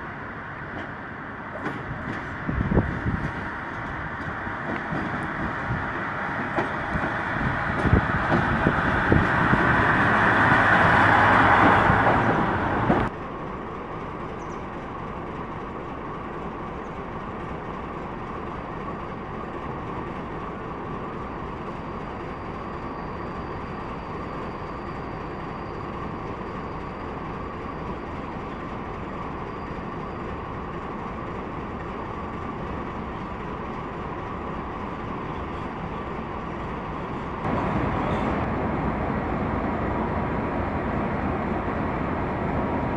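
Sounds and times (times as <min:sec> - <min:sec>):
train noise: 0:00.0 - 0:42.9.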